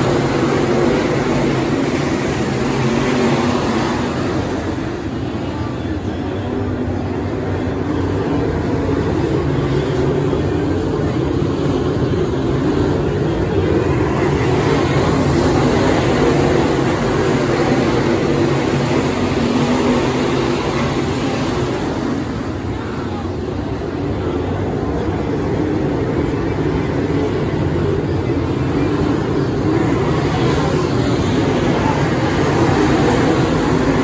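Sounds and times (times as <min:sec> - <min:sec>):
race car engines roaring: 0:00.0 - 0:34.0.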